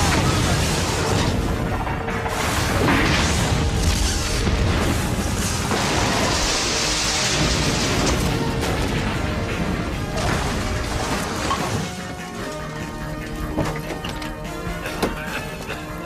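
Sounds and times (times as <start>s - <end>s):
action score music: 0.0s - 16.0s.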